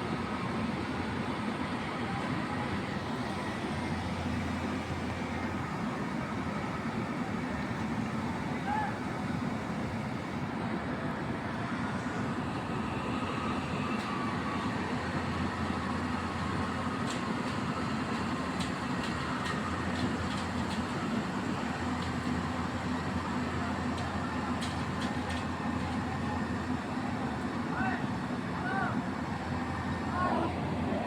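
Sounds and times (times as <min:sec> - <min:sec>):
excavator diesel engine droning: 0:00.1 - 0:31.0.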